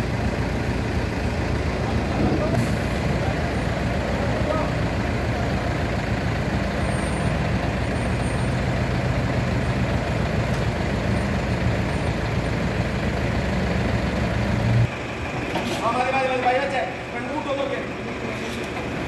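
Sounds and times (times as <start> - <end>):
heavy vehicle engine droning: 0.0 - 19.0.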